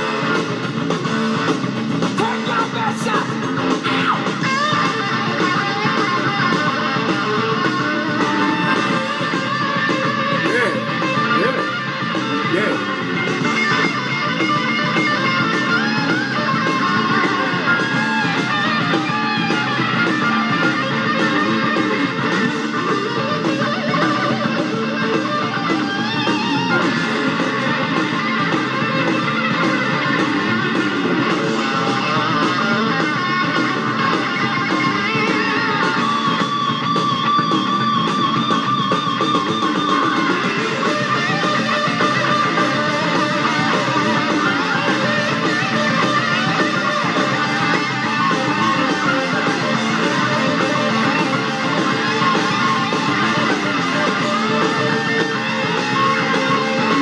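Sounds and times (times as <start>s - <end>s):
electric guitar: 0.0s - 57.0s
live rock band playing: 0.0s - 57.0s.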